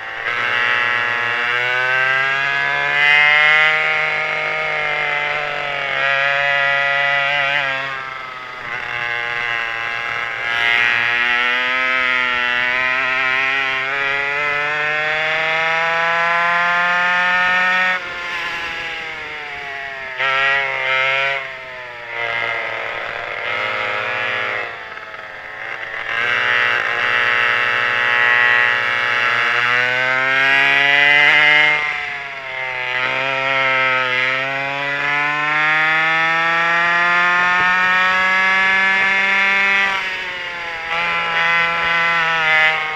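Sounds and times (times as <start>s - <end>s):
two-stroke engines revving: 0.0s - 42.9s.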